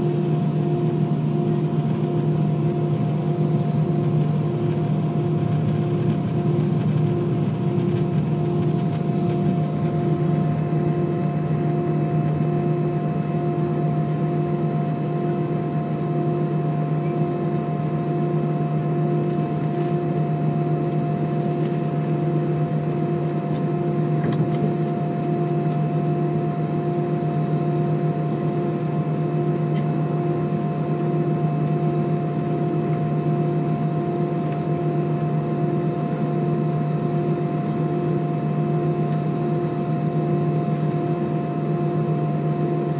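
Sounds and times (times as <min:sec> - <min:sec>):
jet engine hum in cabin: 0:00.0 - 0:42.9.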